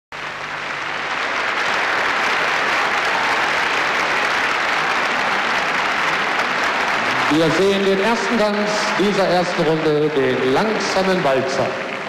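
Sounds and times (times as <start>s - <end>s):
audience applauding: 0.1s - 12.0s.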